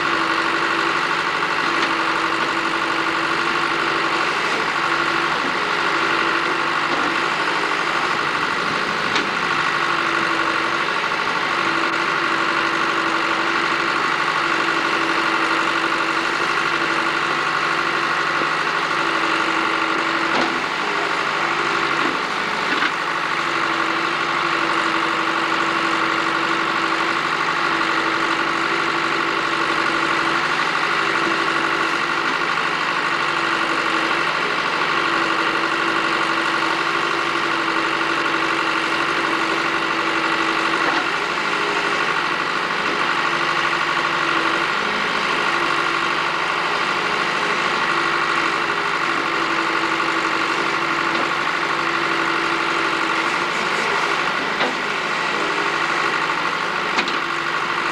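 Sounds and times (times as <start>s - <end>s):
backhoe engine running: 0.0s - 57.9s.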